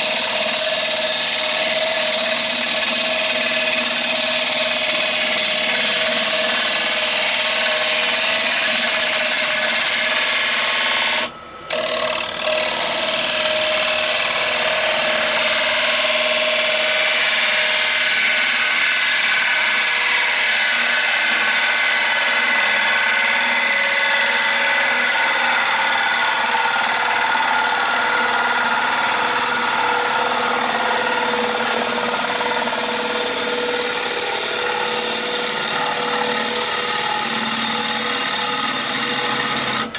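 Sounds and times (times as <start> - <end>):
wood lathe humming: 0.0 - 39.9.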